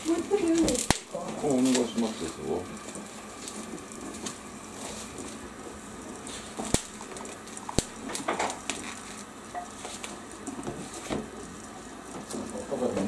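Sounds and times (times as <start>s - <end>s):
pot boiling with bubbling hiss: 0.0s - 13.0s.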